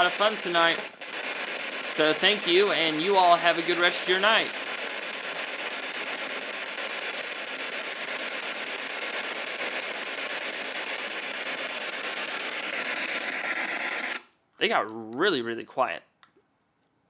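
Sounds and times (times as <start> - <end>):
radio static hiss: 0.0 - 14.2.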